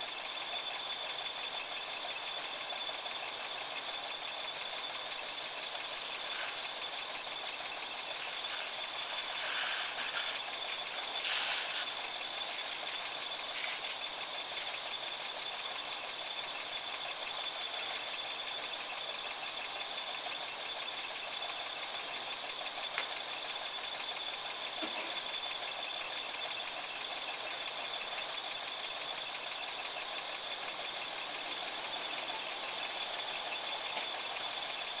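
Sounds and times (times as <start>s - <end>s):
engine idling with knocking clatter: 0.0s - 35.0s.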